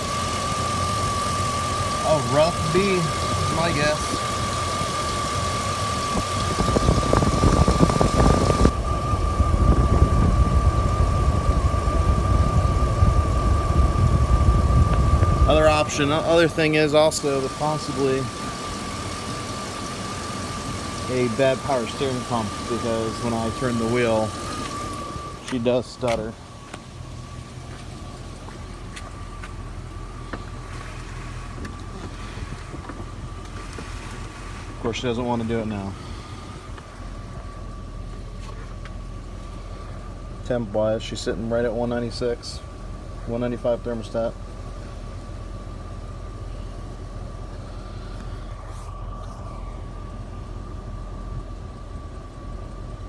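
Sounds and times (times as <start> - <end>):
car engine idling rough: 0.0 - 53.0
steady high whine: 0.0 - 53.0.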